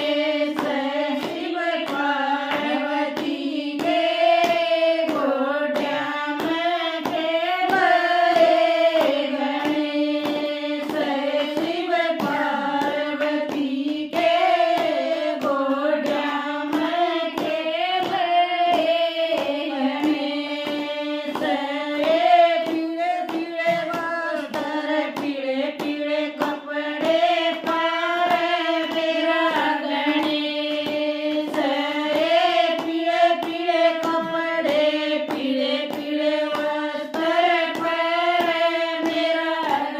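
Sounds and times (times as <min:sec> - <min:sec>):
hand claps: 0:00.0 - 0:39.9
women singing together: 0:00.0 - 0:39.9.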